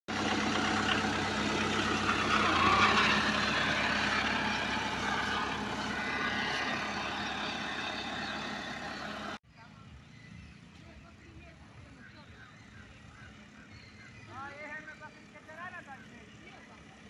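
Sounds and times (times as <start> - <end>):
car engine running at low speed: 0.1 - 17.0.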